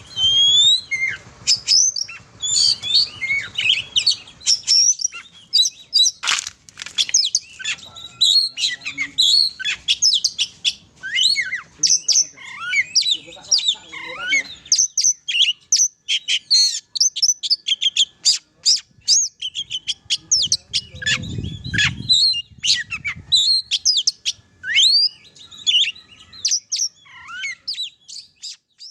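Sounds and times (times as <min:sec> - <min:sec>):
bird singing whistles and chirps: 0:00.0 - 0:06.2, 0:07.0 - 0:28.9.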